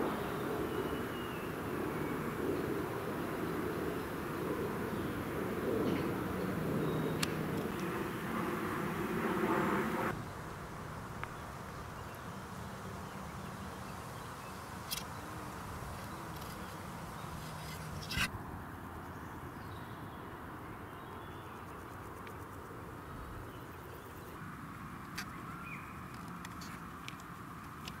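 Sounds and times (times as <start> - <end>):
soft outdoor ambience: 0.0 - 28.0.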